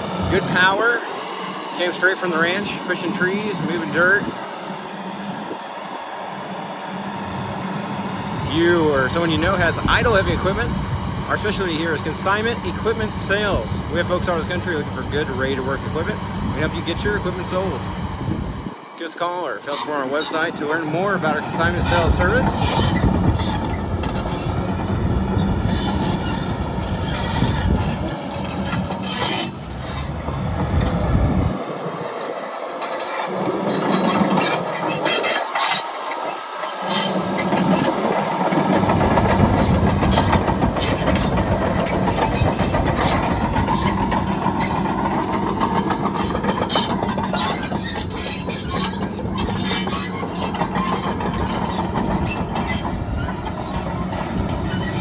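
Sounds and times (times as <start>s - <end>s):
steel tracks clanking and squealing: 0.0s - 4.4s, 7.2s - 55.0s
diesel engine running: 0.0s - 55.0s.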